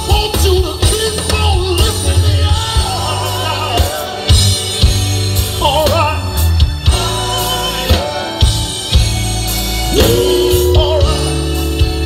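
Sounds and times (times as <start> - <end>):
man singing: 0.0 - 5.0, 5.6 - 9.0, 9.9 - 12.0
live band playing: 0.0 - 12.0.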